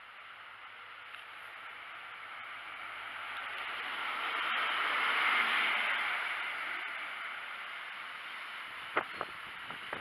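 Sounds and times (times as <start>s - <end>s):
train passing with rushing noise: 0.0s - 10.0s.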